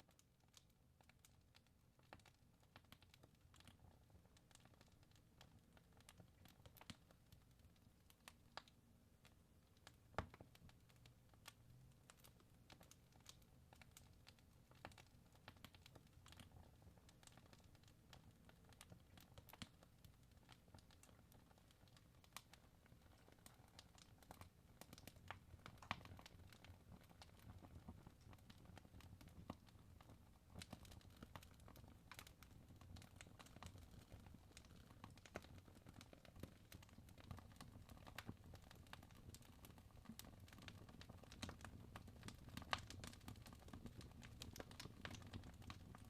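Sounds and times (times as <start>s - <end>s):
wood fire crackling: 0.1s - 46.0s.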